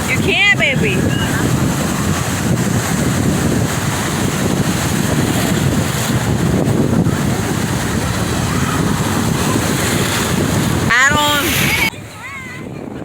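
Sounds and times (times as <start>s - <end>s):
ocean surf washing on shore: 0.0s - 13.0s
wind buffeting microphone: 0.0s - 13.0s.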